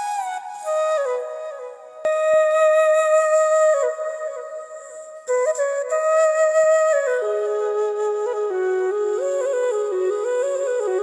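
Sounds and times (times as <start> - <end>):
flute playing long notes: 0.0 - 11.0.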